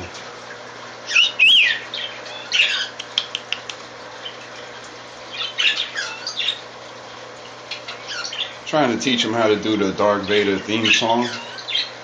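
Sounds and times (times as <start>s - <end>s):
pet birds chirping: 0.5s - 12.0s.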